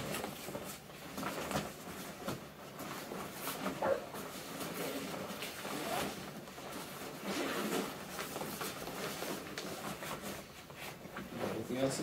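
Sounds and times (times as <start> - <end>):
rustling of backpacks and gear: 0.0 - 12.0.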